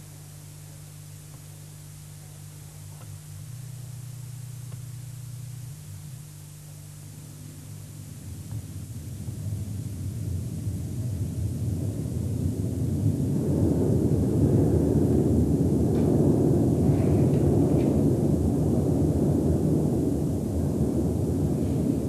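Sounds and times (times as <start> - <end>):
constant hiss: 0.0 - 22.0
steady low hum: 0.0 - 22.0
rough low rumble: 2.6 - 22.0.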